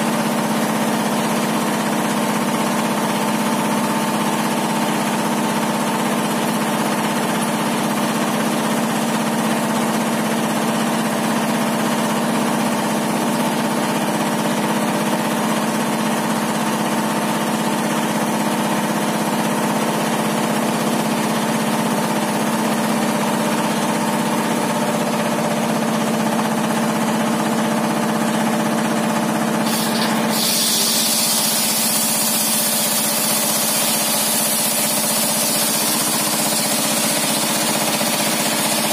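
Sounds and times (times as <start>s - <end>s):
circular table saw running: 0.0s - 38.9s.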